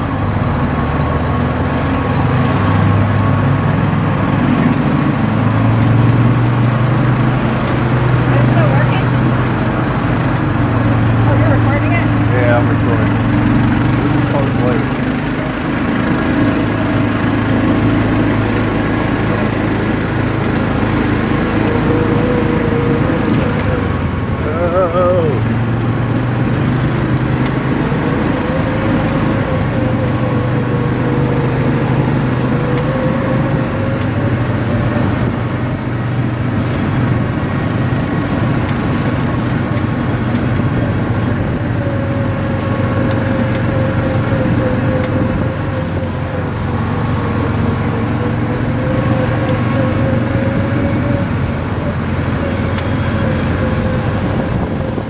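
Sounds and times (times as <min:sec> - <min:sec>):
atv engine droning whine: 0:00.0 - 0:55.0.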